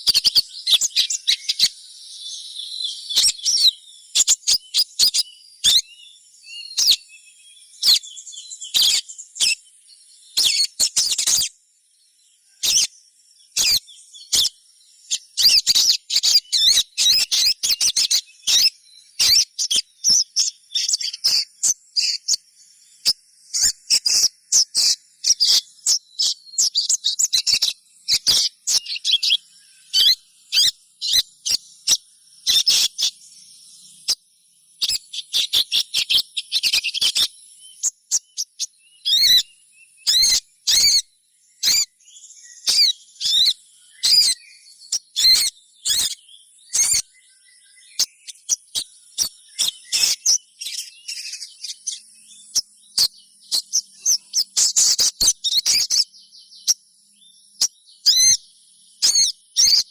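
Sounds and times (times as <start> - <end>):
bird high sharp chirps: 0.0 - 11.6, 12.6 - 56.8, 57.5 - 59.9.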